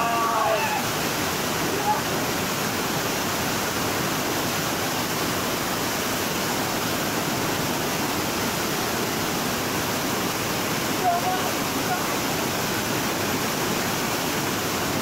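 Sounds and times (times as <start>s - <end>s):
waterfall pouring onto rock: 0.0s - 15.0s.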